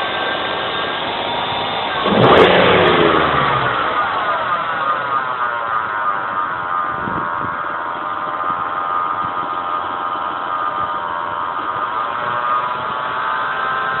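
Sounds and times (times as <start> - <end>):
engine running with whine: 0.0 - 14.0.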